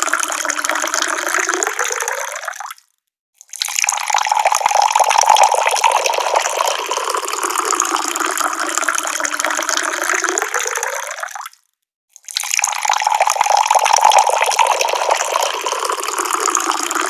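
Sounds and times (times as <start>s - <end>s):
water pouring from a tap: 0.0s - 2.8s, 3.5s - 17.0s.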